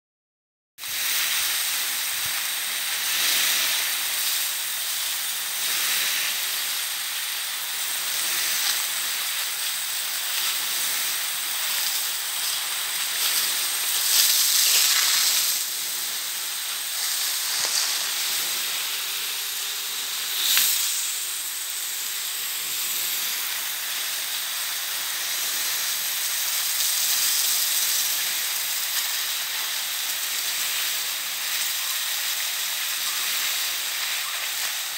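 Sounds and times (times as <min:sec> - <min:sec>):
sprinkler spray hissing: 0:00.8 - 0:34.9.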